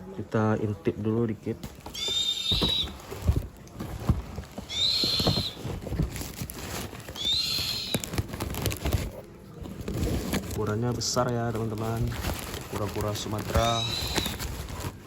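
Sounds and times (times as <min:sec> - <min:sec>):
packaging rustling and knocking: 0:01.5 - 0:15.0.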